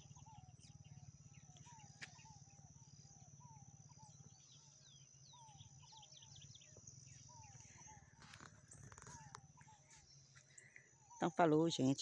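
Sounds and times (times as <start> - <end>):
small bird calls: 0.0 - 12.0.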